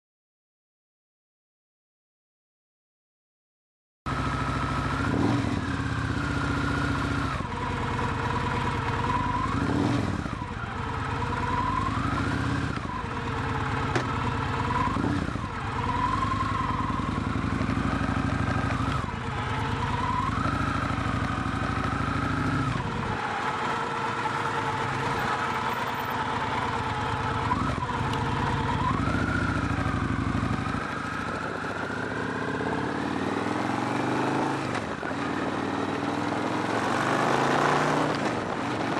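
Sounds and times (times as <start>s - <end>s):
motorcycle engine accelerating: 4.1s - 38.9s.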